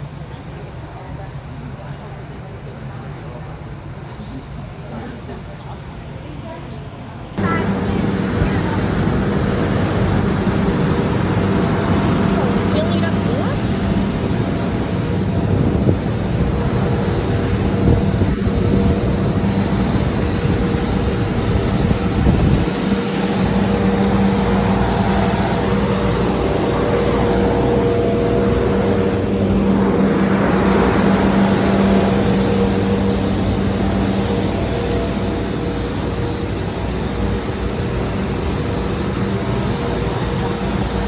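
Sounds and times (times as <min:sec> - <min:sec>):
airliner engine hum and whine: 0:00.0 - 0:41.0.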